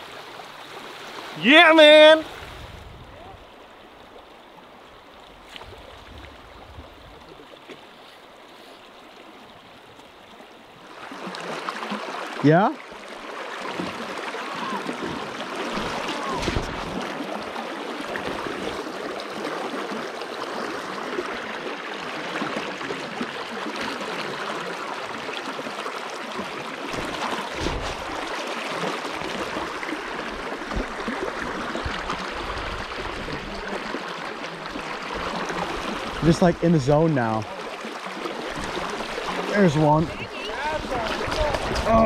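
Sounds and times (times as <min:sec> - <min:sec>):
river water rushing and gurgling: 0:00.0 - 0:42.0.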